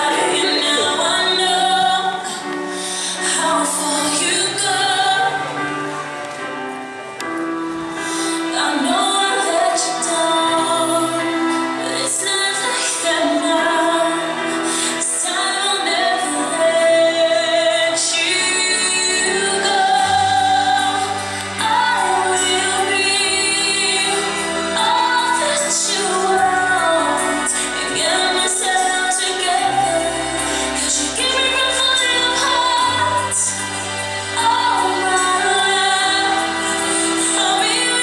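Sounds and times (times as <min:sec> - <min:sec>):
pop ballad woman singing: 0:00.0 - 0:05.7, 0:08.1 - 0:38.0.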